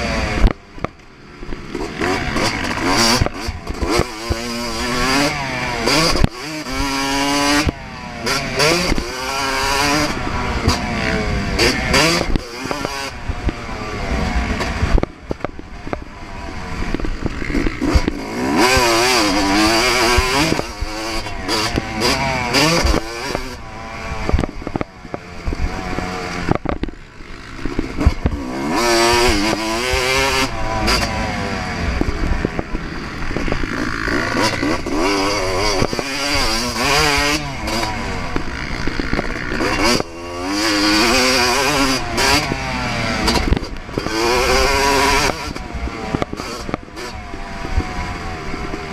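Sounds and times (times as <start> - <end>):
motocross engine revving: 0.0 - 48.9.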